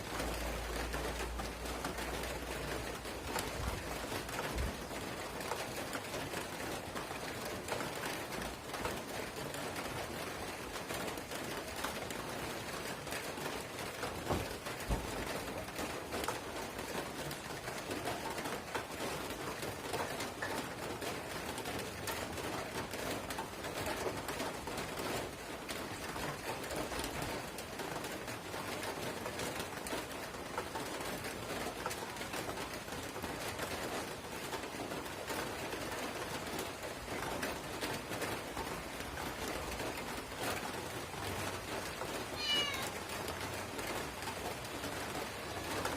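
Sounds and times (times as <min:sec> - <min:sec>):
light drizzle falling: 0:00.0 - 0:45.9.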